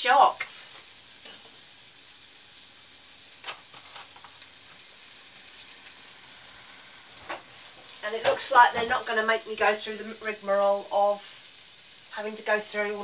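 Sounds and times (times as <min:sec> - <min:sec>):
frying pan sizzling: 0:00.0 - 0:13.0.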